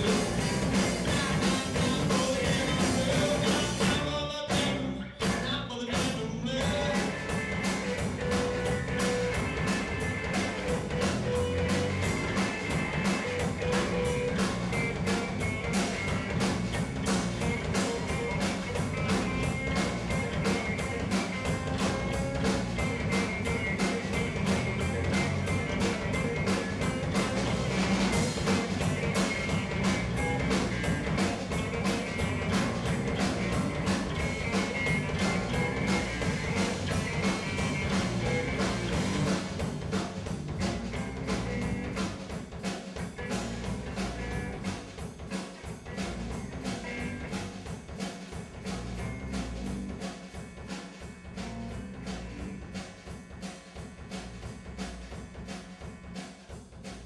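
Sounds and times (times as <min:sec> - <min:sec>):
electric bass guitar: 0:00.0 - 0:42.4, 0:43.0 - 0:45.1, 0:45.7 - 0:47.8, 0:48.4 - 0:50.1, 0:51.1 - 0:52.9
steady drum beat: 0:00.0 - 0:57.0.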